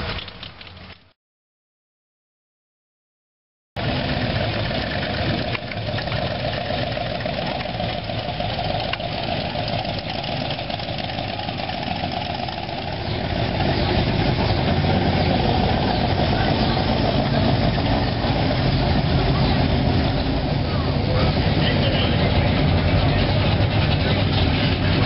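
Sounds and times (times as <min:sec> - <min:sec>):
car engines idling: 0:03.8 - 0:25.0.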